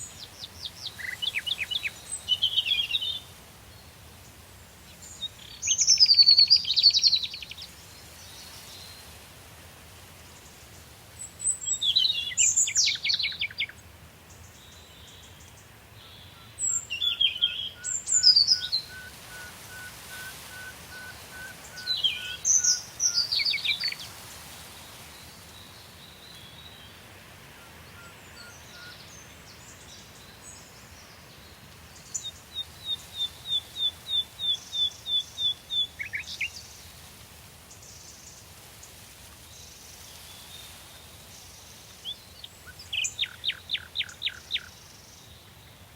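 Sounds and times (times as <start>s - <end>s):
songbirds singing: 0.0s - 9.3s, 10.2s - 45.9s.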